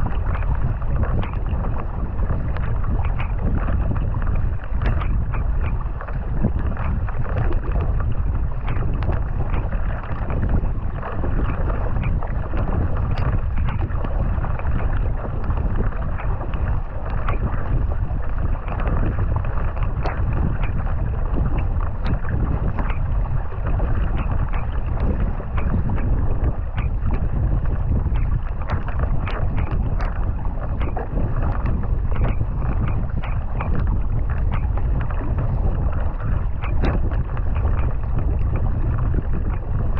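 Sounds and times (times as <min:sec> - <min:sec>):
paddle splashes: 0:00.0 - 0:39.9
wind buffeting microphone: 0:00.0 - 0:39.9.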